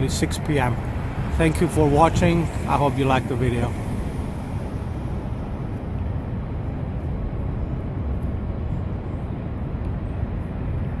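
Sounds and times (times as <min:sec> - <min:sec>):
street ambience rumble: 0:00.0 - 0:11.0.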